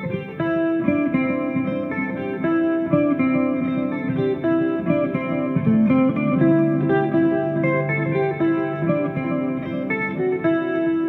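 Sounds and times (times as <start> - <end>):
distorted electric guitar melody: 0.0 - 11.0.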